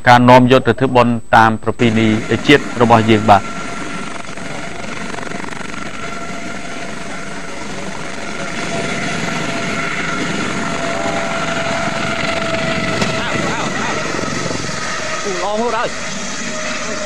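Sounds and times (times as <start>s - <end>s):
helicopter turbine and rotors: 1.8s - 17.0s.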